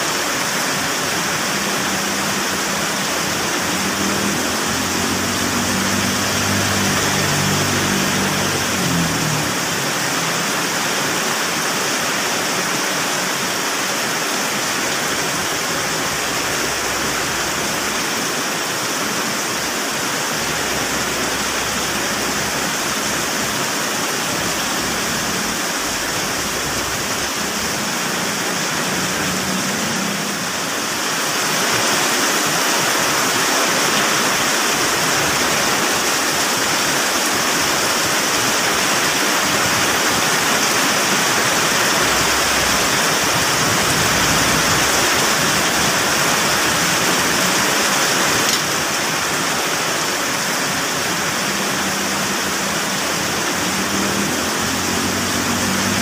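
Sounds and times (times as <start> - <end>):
heavy rain on a street: 0.0 - 56.0.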